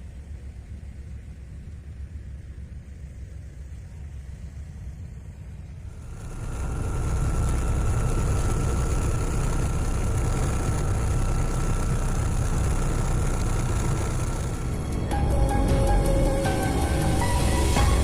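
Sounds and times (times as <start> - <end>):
boat engine rumbling: 0.0 - 18.0
faint steady whine: 0.0 - 18.0.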